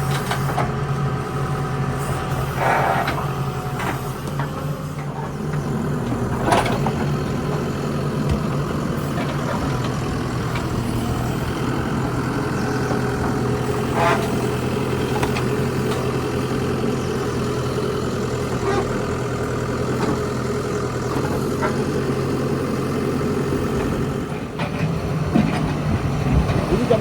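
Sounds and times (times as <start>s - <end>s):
diesel engine running at low revs: 0.0s - 27.0s.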